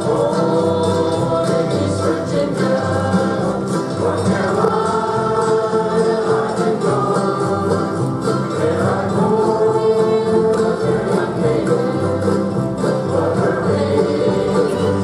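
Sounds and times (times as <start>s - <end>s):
acoustic string band: 0.0s - 15.0s
choir singing: 0.0s - 15.0s.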